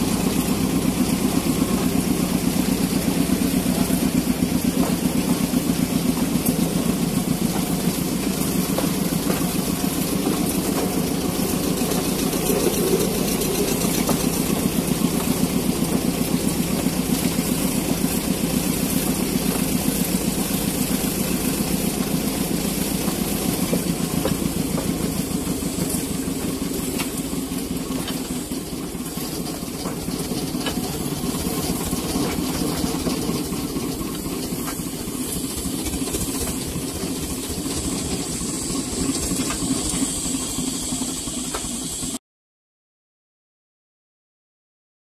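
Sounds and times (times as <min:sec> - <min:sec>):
engine idling: 0:00.0 - 0:42.2
hiss: 0:00.0 - 0:42.2.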